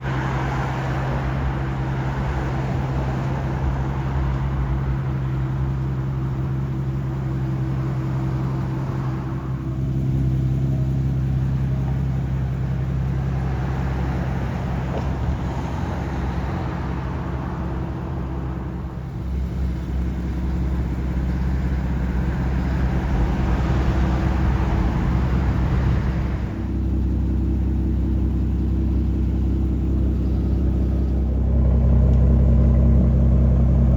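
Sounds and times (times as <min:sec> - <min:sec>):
car engine rumbling: 0:00.0 - 0:33.9.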